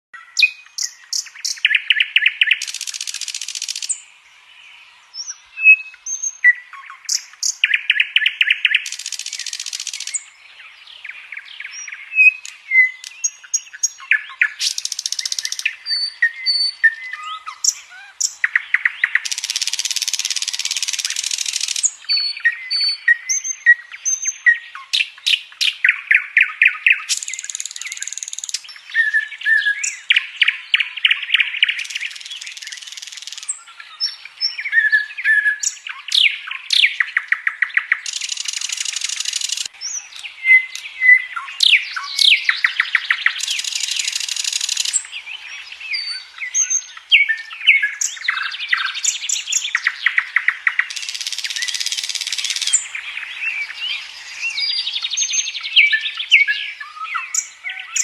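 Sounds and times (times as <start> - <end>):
nightingale singing: 0.2 - 58.0.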